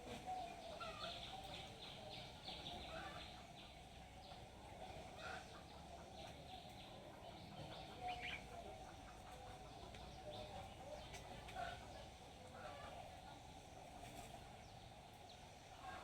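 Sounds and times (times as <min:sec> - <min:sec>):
outdoor background hum: 0:00.0 - 0:16.0.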